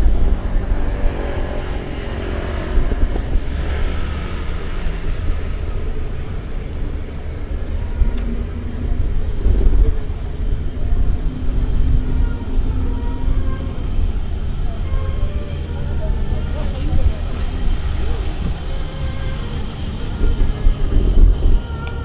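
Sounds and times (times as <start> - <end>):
road traffic rumbling past: 0.0 - 22.0.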